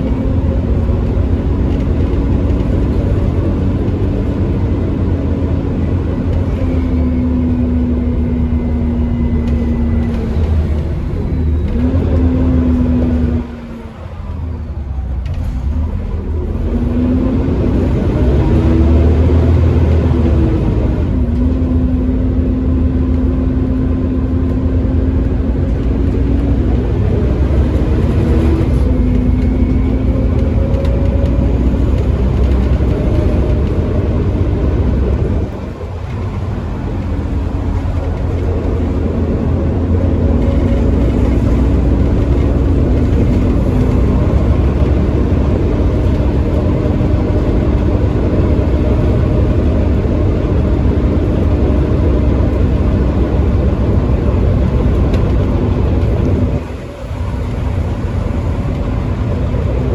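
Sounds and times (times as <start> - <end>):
bus engine working hard: 0.0 - 59.9.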